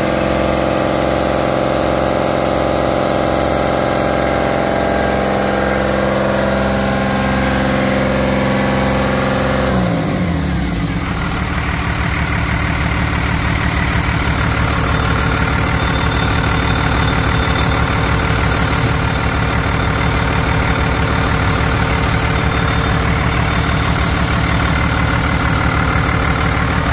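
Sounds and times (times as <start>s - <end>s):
diesel engine revving and idling: 0.0s - 26.9s.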